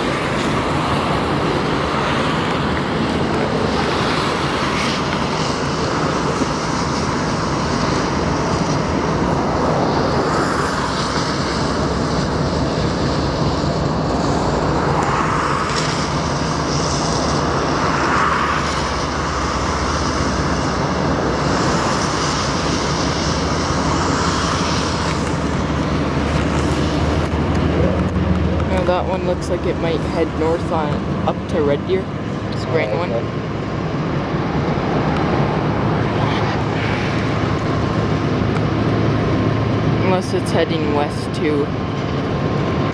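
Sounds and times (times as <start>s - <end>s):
diesel locomotive engines running: 0.0s - 42.9s.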